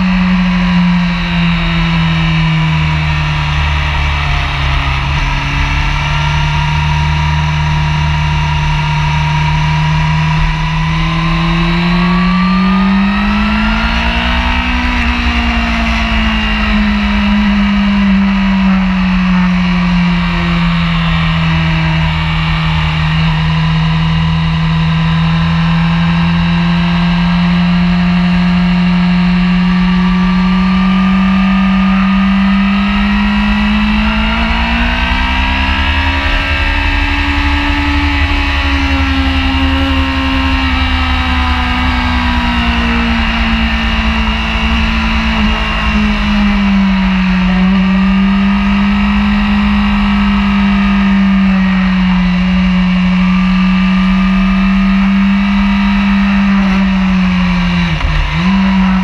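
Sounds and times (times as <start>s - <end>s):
sport bike engine revving: 0.0s - 59.0s.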